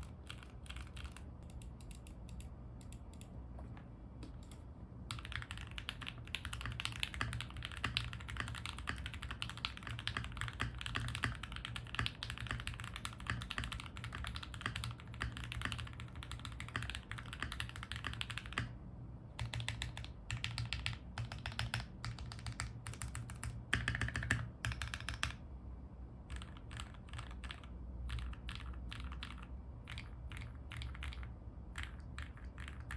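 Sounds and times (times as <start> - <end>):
mechanical keyboard typing: 0.0 - 18.8, 19.4 - 25.4, 26.3 - 32.9.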